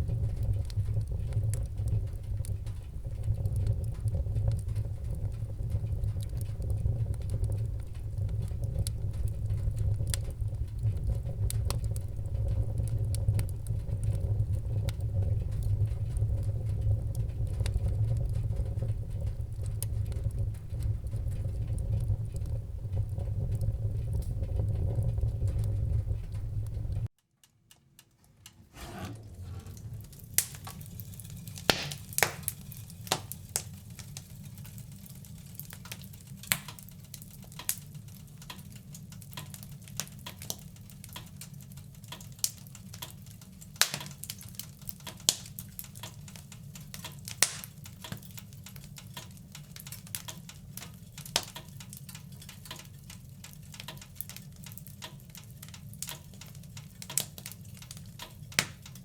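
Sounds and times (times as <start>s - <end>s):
low rumble of flames: 0.0s - 27.1s, 27.7s - 59.0s
wood fire crackling and popping: 0.0s - 59.0s.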